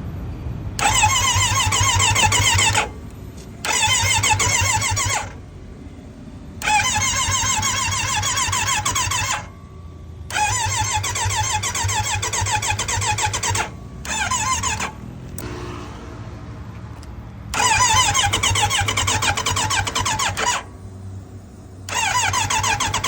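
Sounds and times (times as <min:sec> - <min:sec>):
motorcycle electric starter cranking: 0:00.8 - 0:15.8, 0:16.6 - 0:23.0.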